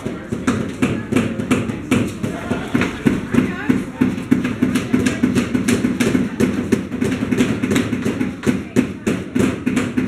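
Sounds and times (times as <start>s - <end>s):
hammers tapping nails into wood: 0.0s - 10.0s.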